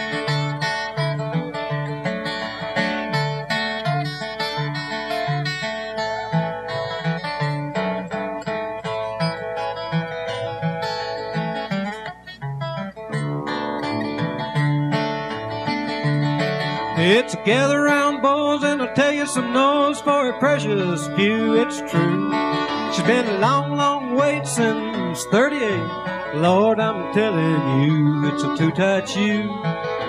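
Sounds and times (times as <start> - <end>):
acoustic guitar flatpicking: 0.0 - 30.0
fiddle: 0.0 - 30.0.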